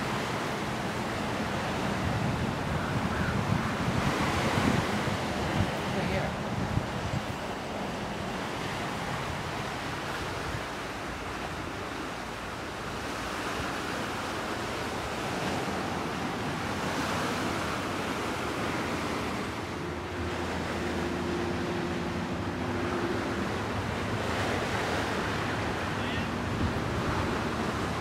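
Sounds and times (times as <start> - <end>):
water along the shore: 0.0 - 28.0
wind: 0.0 - 28.0.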